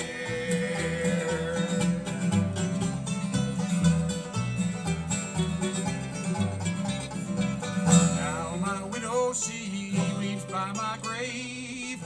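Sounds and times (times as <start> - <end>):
acoustic guitar: 0.0 - 12.0
banjo picking quick notes: 0.0 - 12.0
walking bass: 0.0 - 12.0.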